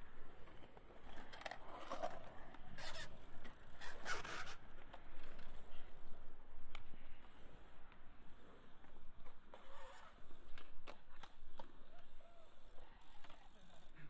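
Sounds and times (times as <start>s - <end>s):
bike tyres rolling on concrete: 0.0s - 14.0s.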